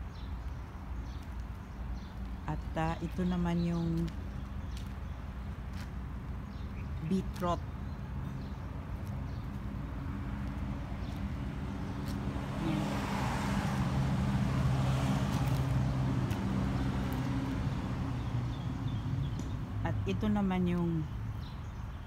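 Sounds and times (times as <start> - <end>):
vehicle engine humming: 0.0 - 21.1.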